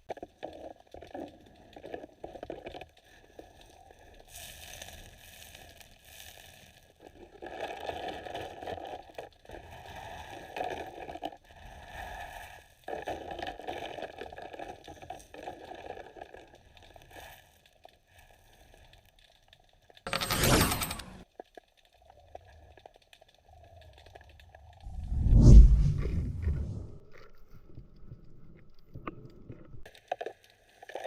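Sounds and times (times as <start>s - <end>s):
underwater squishing and scraping: 0.0s - 20.0s, 25.9s - 31.0s.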